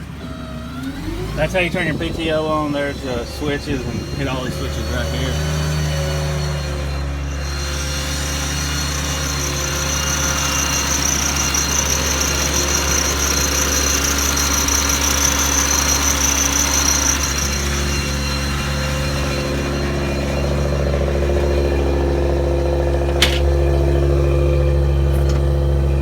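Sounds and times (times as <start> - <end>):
engine idling: 0.0 - 26.0
high-pitched hydraulic whine: 0.0 - 26.0.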